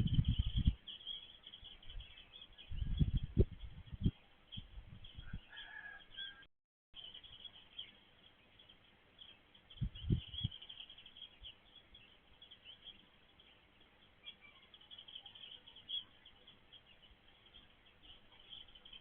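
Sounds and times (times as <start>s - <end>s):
small birds chirping: 0.0s - 6.4s, 7.0s - 19.0s.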